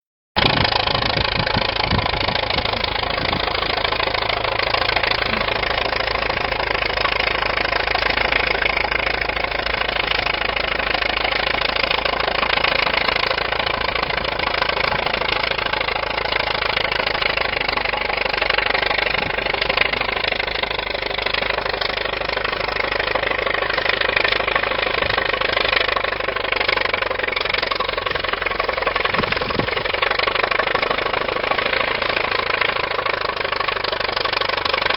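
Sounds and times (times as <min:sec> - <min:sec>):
bulldozer engine running: 0:00.4 - 0:34.9.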